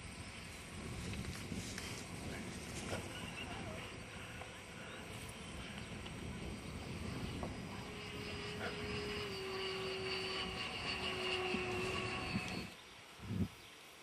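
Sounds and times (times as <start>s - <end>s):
electric ducted fan whining: 0.0s - 13.5s.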